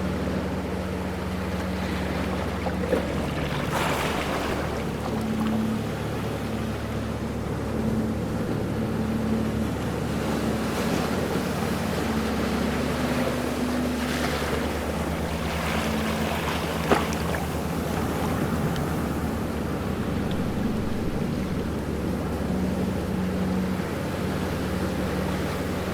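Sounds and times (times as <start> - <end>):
low steady hum: 0.0 - 25.9
ocean waves washing in: 0.0 - 25.9.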